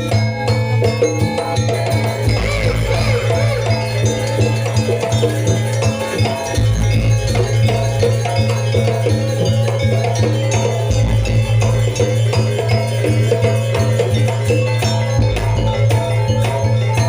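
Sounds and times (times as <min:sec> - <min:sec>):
metallophone notes: 0:00.0 - 0:17.0
percussion: 0:00.0 - 0:17.0.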